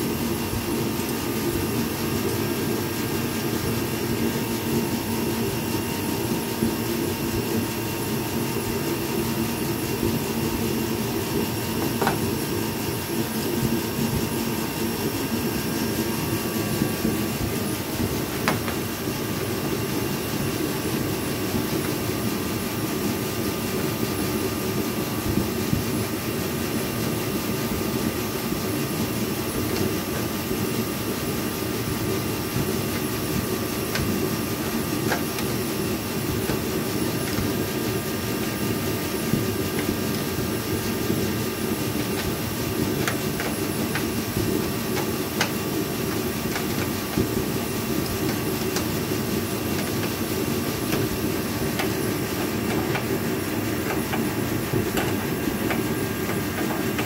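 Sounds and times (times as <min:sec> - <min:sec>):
steady mechanical drone: 0:00.0 - 0:57.0.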